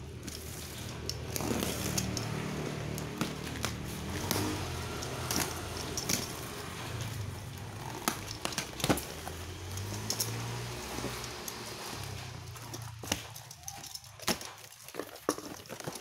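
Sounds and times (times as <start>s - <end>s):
box cutter slicing tape and cardboard: 0.1s - 13.4s.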